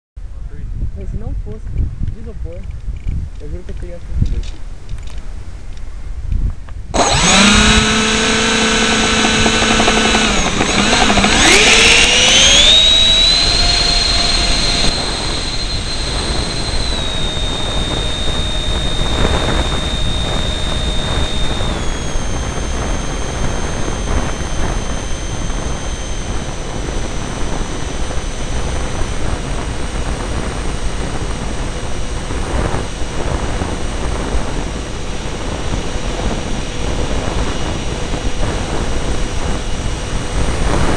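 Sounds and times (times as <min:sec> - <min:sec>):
electric ducted fans whining: 0:00.2 - 0:40.9
steady rush of noise: 0:06.7 - 0:40.9.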